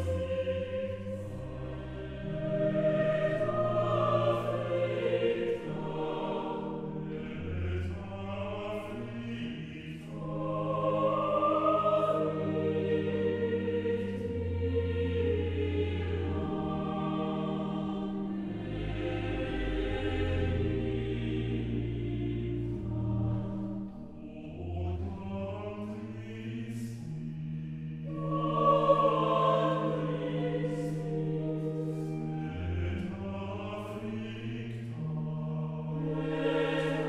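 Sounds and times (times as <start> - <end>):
choir singing: 0.0 - 37.0
pipe organ bass notes: 0.0 - 37.0.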